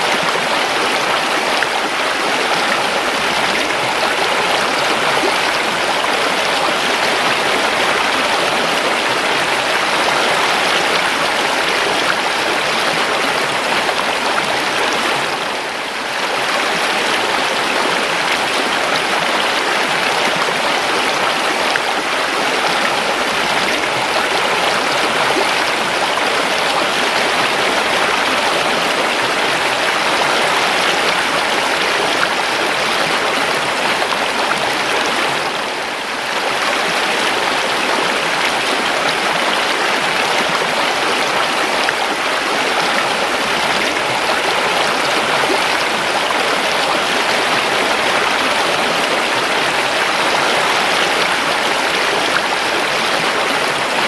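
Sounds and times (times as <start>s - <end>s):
river water rushing and gurgling: 0.0s - 54.0s.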